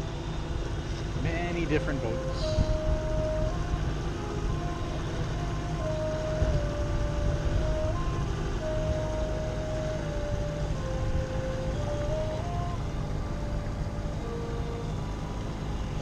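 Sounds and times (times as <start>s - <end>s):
outboard motor running: 0.0s - 16.0s
thin tone stepping in pitch: 1.1s - 16.0s.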